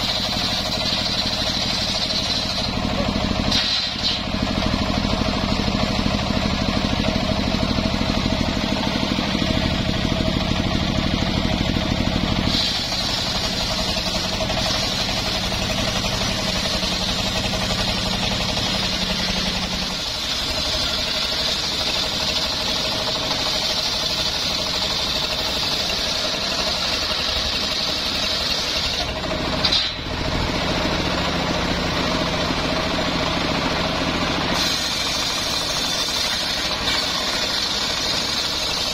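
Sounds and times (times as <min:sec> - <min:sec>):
circular saw cutting wood: 0:00.0 - 0:31.5, 0:32.2 - 0:38.9
engine labouring: 0:00.0 - 0:38.9.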